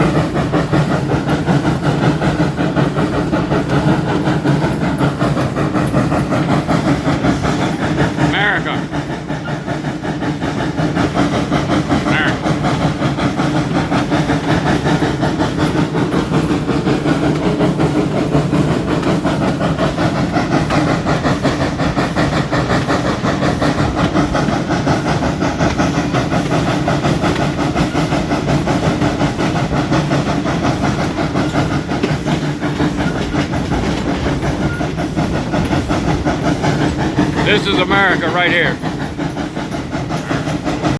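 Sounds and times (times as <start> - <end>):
train wheels rumbling and clattering: 0.0 - 40.9.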